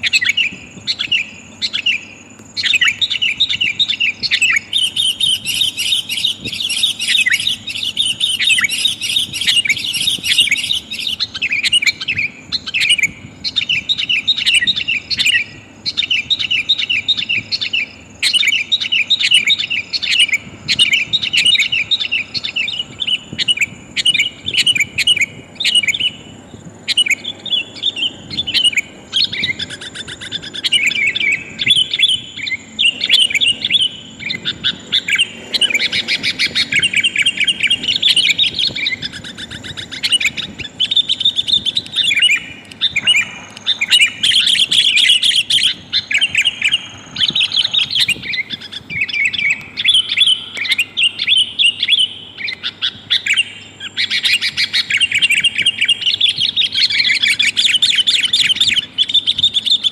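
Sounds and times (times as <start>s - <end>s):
bird calling in chattering phrases: 0.0s - 59.9s.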